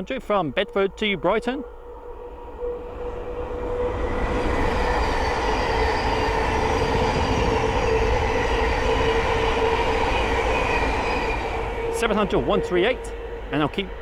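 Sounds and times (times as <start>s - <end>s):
train wheels rushing on rail: 0.0s - 14.0s
train whine: 0.0s - 14.0s.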